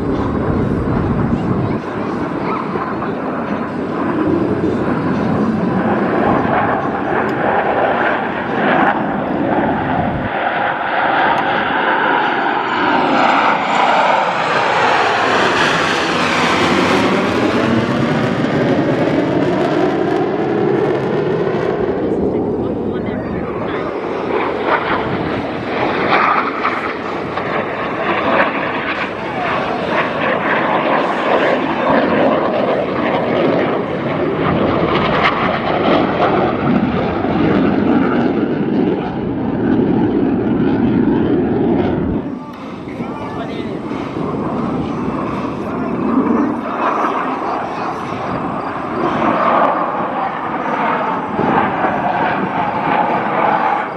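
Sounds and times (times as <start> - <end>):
jets flying past: 0.0 - 53.9.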